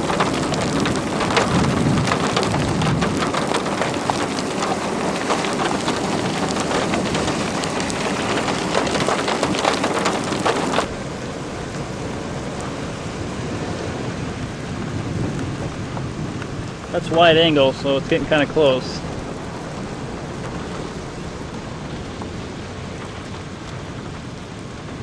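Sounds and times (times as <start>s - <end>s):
heavy rain falling: 0.0s - 25.0s
low rumble of thunder: 0.0s - 25.0s.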